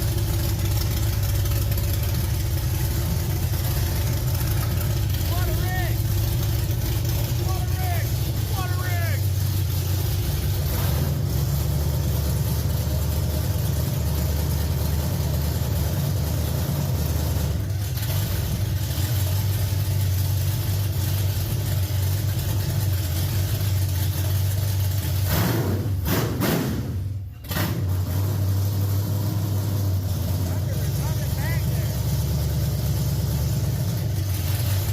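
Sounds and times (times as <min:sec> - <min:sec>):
race car engine rumble: 0:00.0 - 0:34.9.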